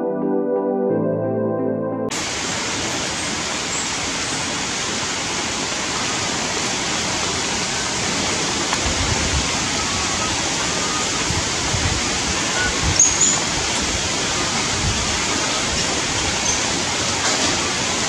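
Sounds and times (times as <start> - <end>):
rain hissing: 2.1 - 18.0.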